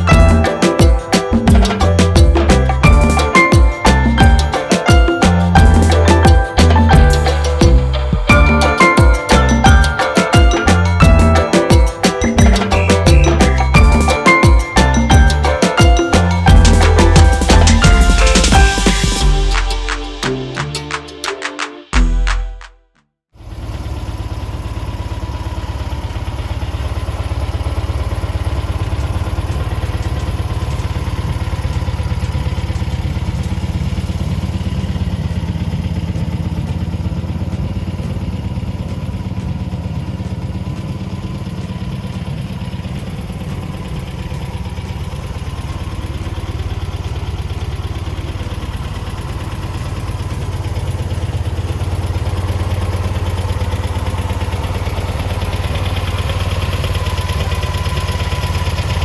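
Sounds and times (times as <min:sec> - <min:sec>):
engine idling: 0:00.0 - 0:20.5, 0:23.4 - 0:59.0.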